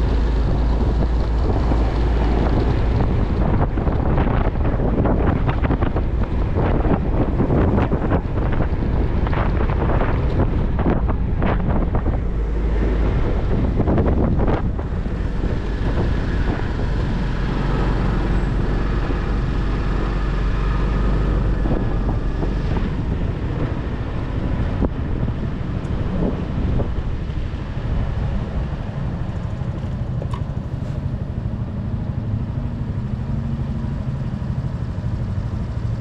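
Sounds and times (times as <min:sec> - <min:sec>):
motorcycle engine droning: 0:00.0 - 0:36.0
wind buffeting microphone: 0:00.0 - 0:36.0.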